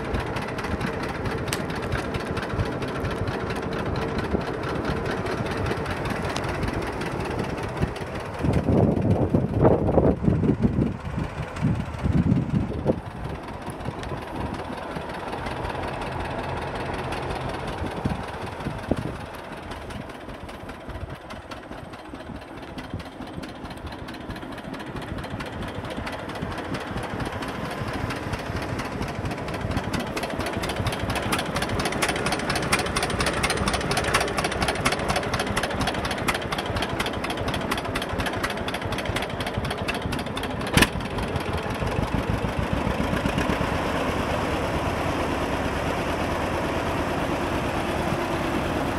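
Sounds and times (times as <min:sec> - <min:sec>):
tractor engine idling: 0:00.0 - 0:48.9.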